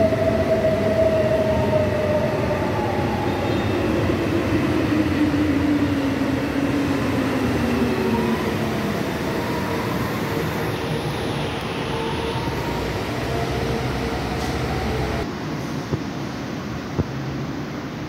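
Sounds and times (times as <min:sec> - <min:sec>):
metro train whine and rumble: 0:00.0 - 0:18.0
station ambience: 0:00.0 - 0:18.0.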